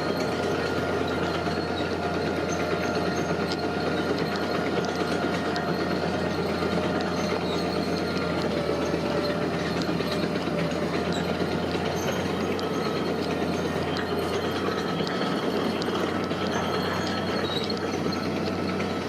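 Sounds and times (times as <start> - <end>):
construction machinery engine hum: 0.0 - 19.0.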